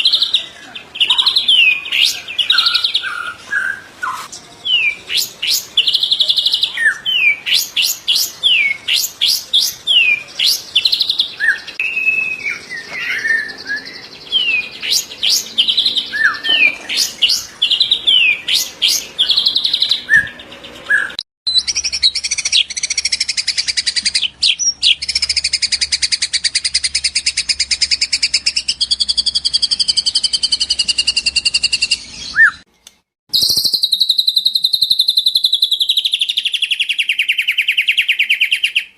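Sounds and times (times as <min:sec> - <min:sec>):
bird singing loud whistles: 0:01.4 - 0:32.6, 0:33.3 - 0:38.9.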